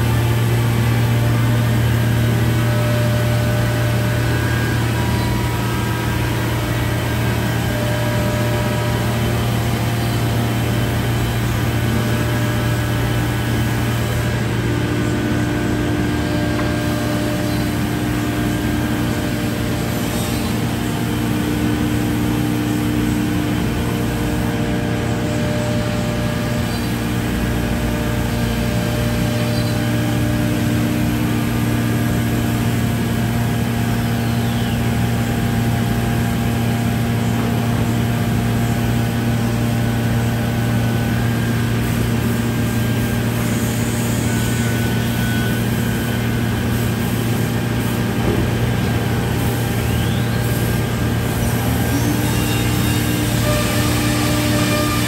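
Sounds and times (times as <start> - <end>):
humming tones: 0.0 - 55.0
panel router mechanical drone: 0.0 - 55.0.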